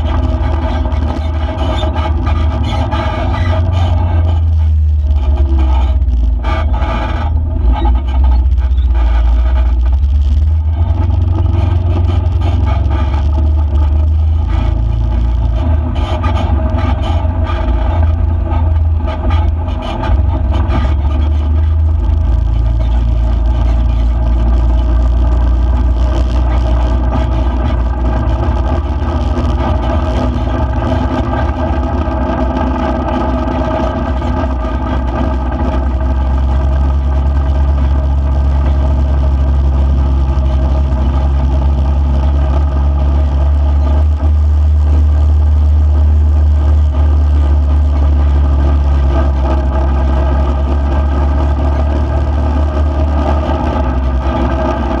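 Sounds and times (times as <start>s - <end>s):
gravel crackling under tyres: 0.0s - 55.0s
vehicle engine rumbling: 0.0s - 55.0s.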